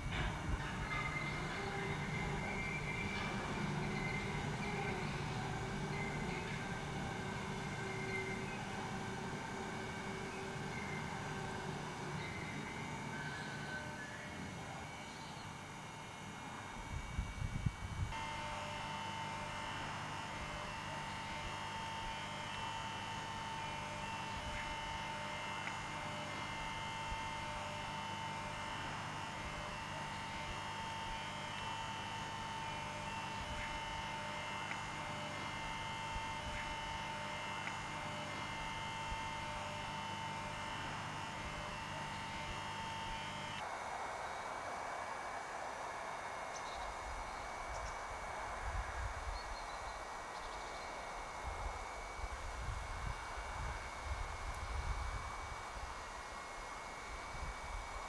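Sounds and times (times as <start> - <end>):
electrical hum with whining tone: 0.0 - 58.0.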